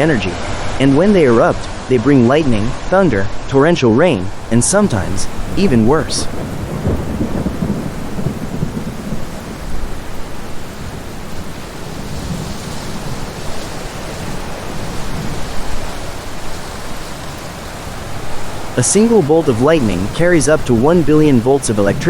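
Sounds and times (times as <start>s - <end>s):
heavy rain pouring: 4.2s - 22.0s
rolling thunder: 4.3s - 22.0s.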